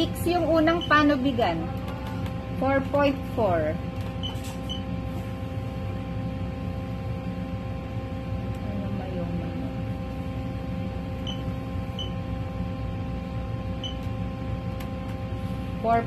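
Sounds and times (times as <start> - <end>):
machine hum with whine: 0.0 - 16.0.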